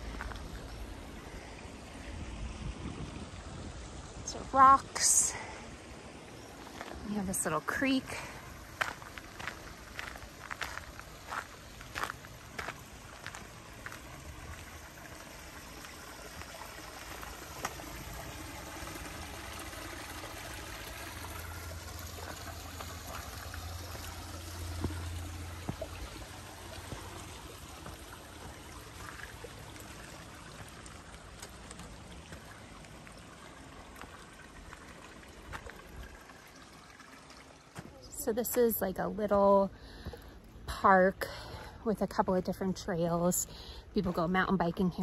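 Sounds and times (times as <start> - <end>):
low hum: 0.0 - 44.9
creek running over rocks: 0.0 - 45.0.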